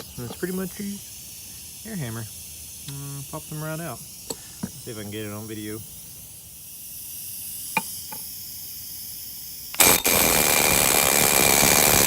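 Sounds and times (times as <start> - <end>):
pneumatic air hammer: 0.0 - 5.2, 5.8 - 12.0
faint hiss: 0.0 - 12.0.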